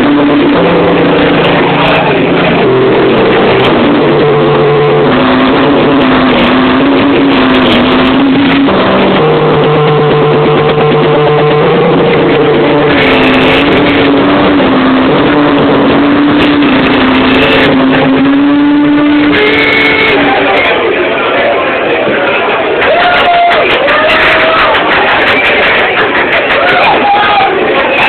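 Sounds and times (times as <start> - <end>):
live electronic music: 0.0 - 28.0.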